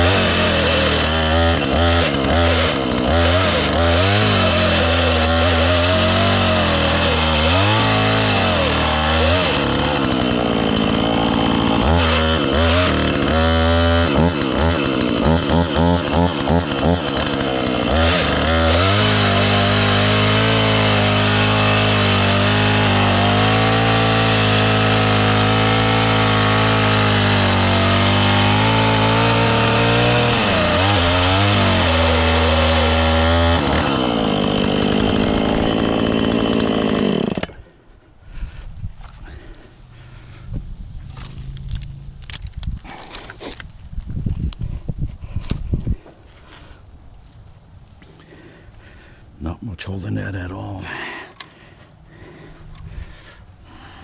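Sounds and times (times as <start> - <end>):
chainsaw revving and cutting wood: 0.0 - 37.9, 39.2 - 40.2, 41.1 - 43.7, 48.0 - 54.0.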